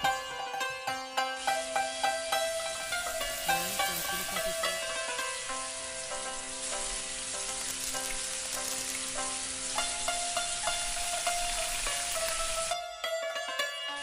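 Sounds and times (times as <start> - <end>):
music with long held notes: 0.0 - 14.0
plucked string notes: 0.0 - 14.0
steady hiss: 0.0 - 14.0.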